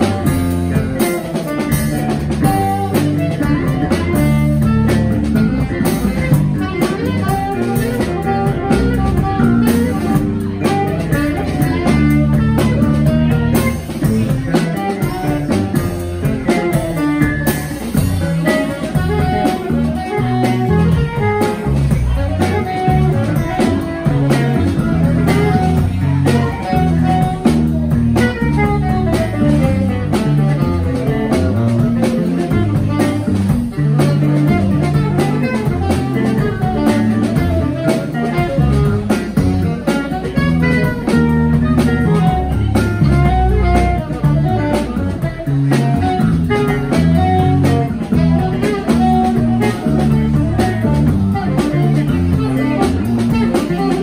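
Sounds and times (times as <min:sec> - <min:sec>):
jazz trio playing: 0:00.0 - 0:54.0
plucked electric bass runs: 0:00.0 - 0:54.0.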